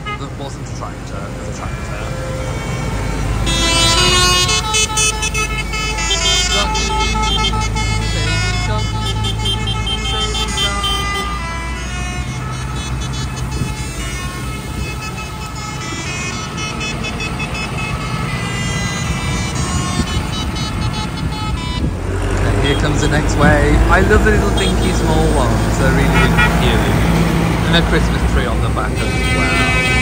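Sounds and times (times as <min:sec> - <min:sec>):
diesel tractors driving past: 0:00.0 - 0:30.0
horns tooting: 0:00.0 - 0:30.0.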